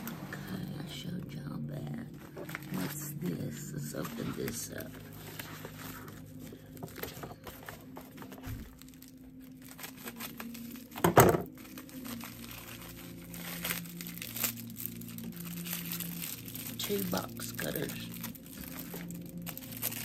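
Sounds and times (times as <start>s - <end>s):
plastic packaging crinkling: 2.1s - 20.0s.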